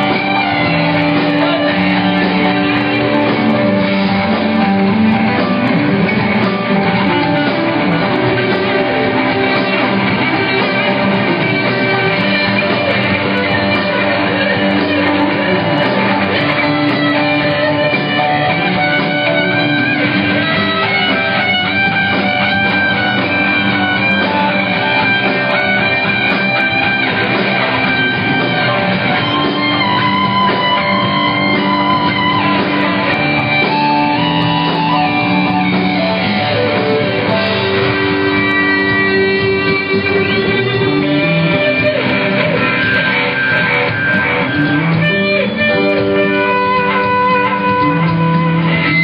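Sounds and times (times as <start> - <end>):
electric guitar: 0.0 - 49.0
live rock band playing: 0.0 - 49.0.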